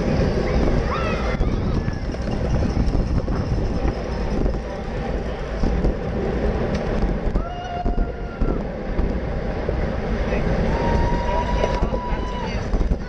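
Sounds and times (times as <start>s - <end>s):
tyre and road noise: 0.0s - 13.0s
wind rushing over microphone: 0.0s - 13.0s.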